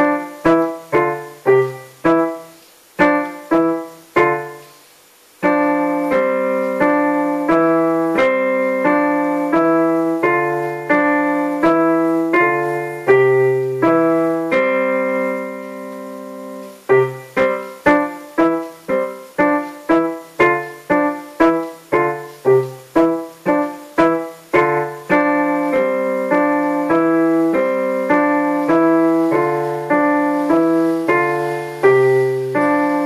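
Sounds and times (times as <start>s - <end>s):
digital piano playing: 0.0s - 33.0s.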